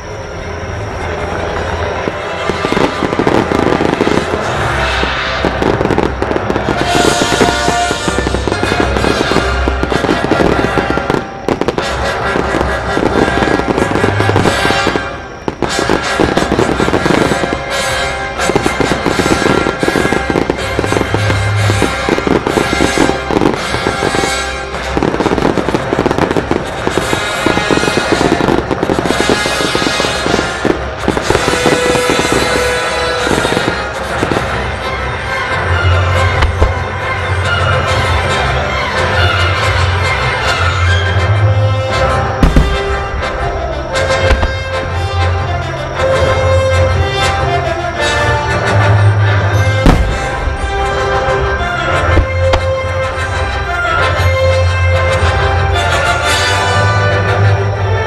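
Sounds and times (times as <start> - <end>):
fireworks bangs and crackling: 0.0 - 58.0
music playing: 0.0 - 58.0.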